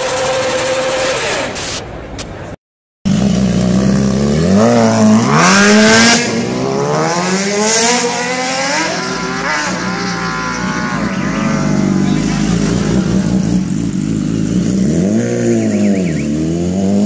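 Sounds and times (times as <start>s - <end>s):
motorcycle engine accelerating: 0.0s - 1.7s, 3.1s - 17.0s.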